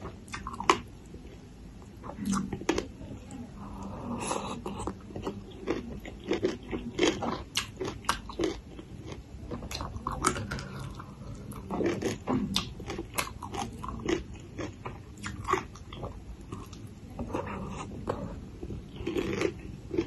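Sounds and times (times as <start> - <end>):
crunching and chewing food: 0.0 - 20.0.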